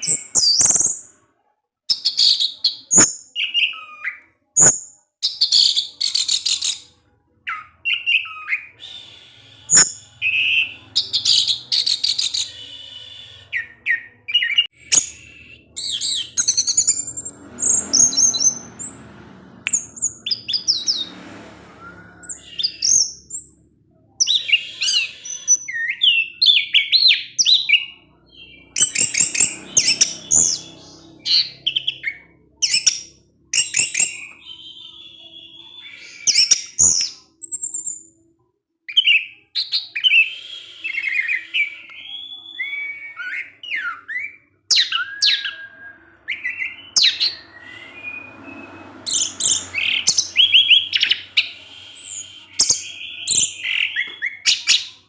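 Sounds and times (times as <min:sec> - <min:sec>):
bird singing whistled phrases: 0:07.5 - 0:19.1, 0:19.7 - 0:33.0, 0:33.6 - 0:38.1, 0:38.9 - 0:55.0.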